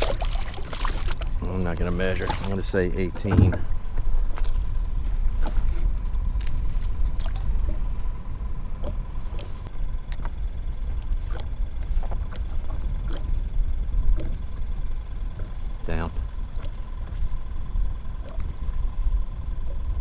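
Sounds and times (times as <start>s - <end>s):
water lapping against hull: 0.0s - 6.3s, 7.1s - 20.0s.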